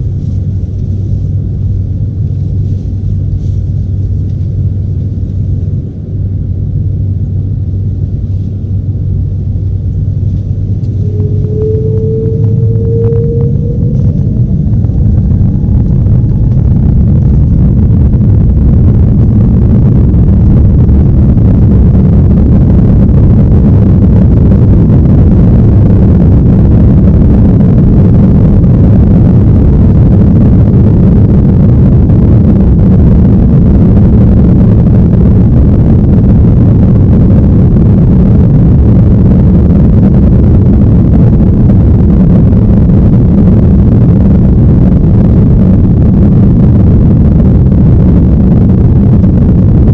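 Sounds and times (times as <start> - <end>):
airliner cabin engine rumble: 0.0 - 49.9.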